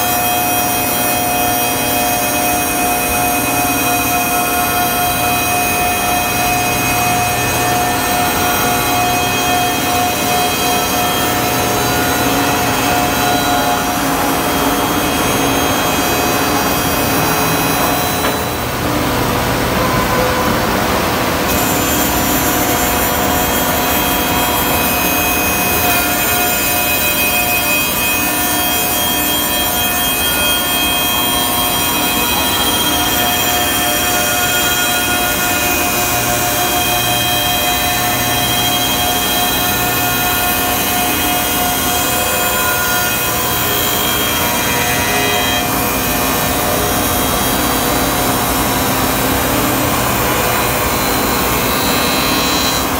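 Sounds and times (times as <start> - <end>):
wood cutting and sanding: 0.0 - 20.2, 21.0 - 52.9
cutter spindles whining: 0.0 - 52.9.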